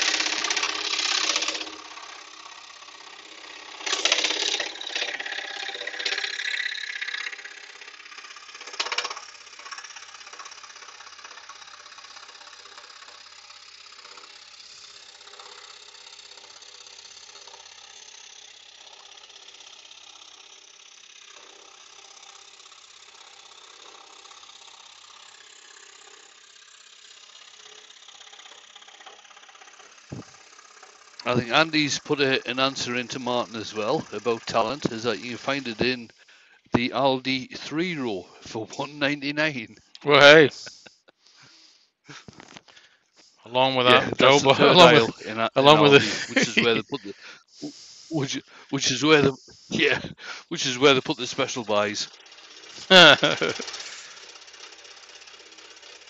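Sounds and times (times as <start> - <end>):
scroll saw cutting wood: 0.0 - 39.5, 43.2 - 56.0.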